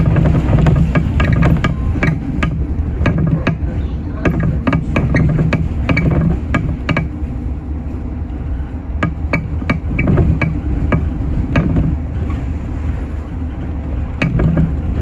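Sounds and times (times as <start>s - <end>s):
bus engine and road rumble: 0.0s - 15.0s
bus knocking and rattling: 0.0s - 15.0s.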